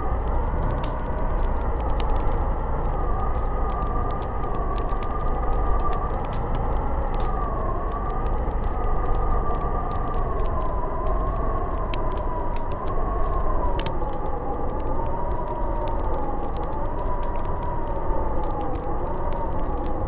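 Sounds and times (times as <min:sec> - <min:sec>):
wind howling: 0:00.0 - 0:20.0.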